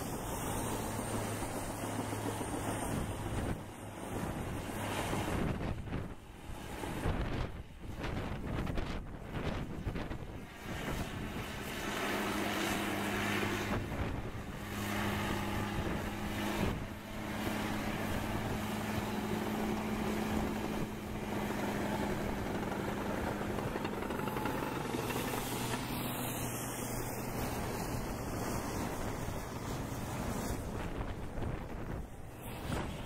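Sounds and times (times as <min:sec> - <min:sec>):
bulldozer diesel engine droning: 0:00.0 - 0:07.1, 0:10.5 - 0:33.0.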